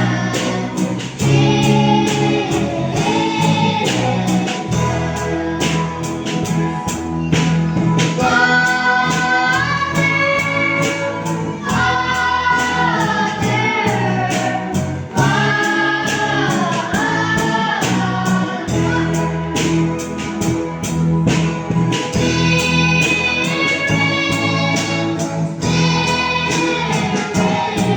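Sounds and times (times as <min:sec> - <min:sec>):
group singing worship song: 0:00.0 - 0:20.9, 0:22.1 - 0:27.9
band with steady beat and bass: 0:00.0 - 0:27.9.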